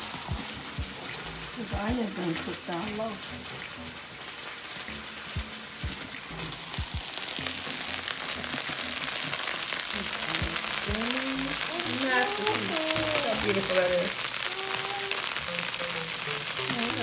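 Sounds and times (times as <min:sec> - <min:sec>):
meat sizzling in a skillet: 0:00.0 - 0:17.0.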